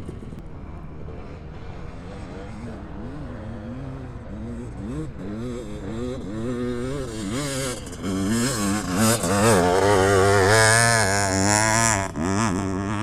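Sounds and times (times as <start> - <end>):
dirt bike revving: 0.0 - 13.0.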